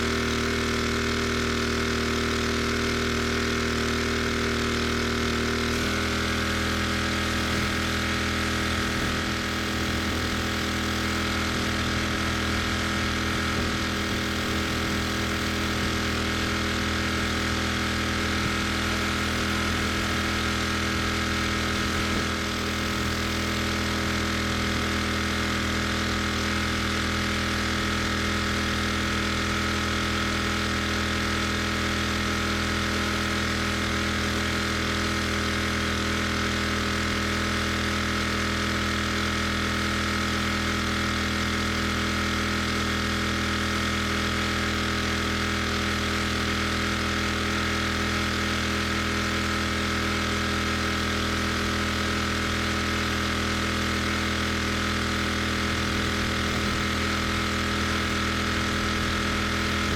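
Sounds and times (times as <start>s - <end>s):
petrol engine running: 5.0s - 59.9s.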